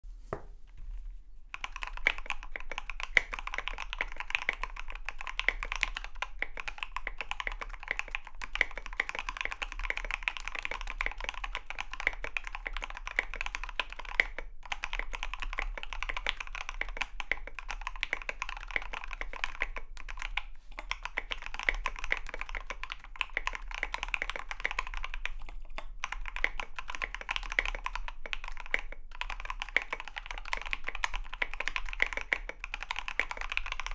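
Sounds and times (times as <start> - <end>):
mechanical keyboard typing: 1.5 - 33.9.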